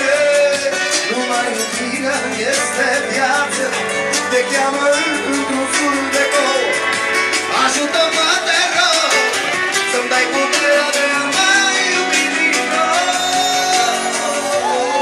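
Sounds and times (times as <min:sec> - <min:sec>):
live pop music with singing: 0:00.0 - 0:15.0.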